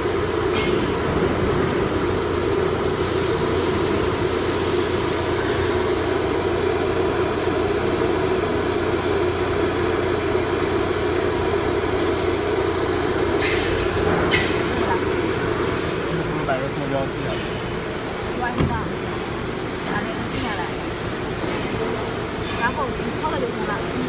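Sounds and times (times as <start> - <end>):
low machinery hum: 0.0 - 24.0.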